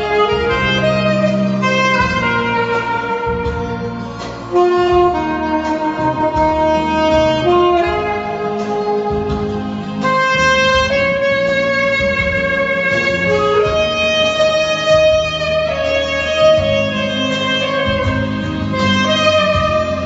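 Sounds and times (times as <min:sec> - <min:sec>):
instrumental backing track: 0:00.0 - 0:20.0
saxophone melody: 0:00.0 - 0:20.0.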